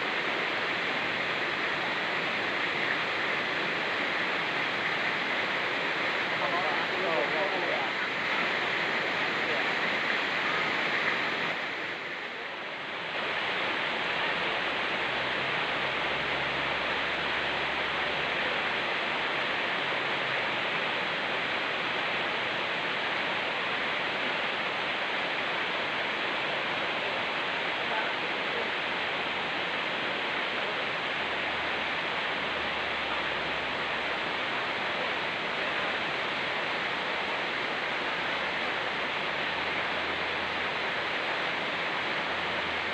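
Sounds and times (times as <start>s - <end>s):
fast-flowing river: 0.0s - 42.9s
rain in forest: 0.0s - 42.9s.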